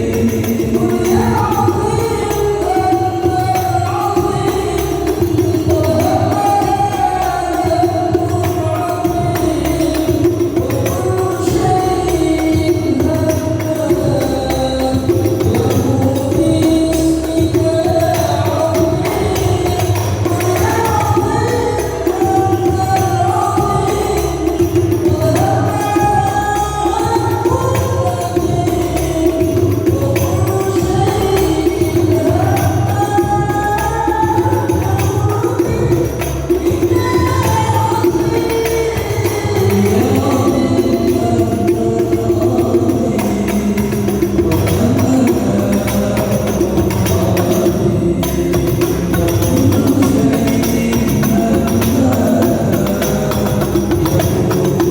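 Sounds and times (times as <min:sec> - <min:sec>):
devotional singing: 0:00.0 - 0:54.9
frame drum and tambourine: 0:00.0 - 0:54.9.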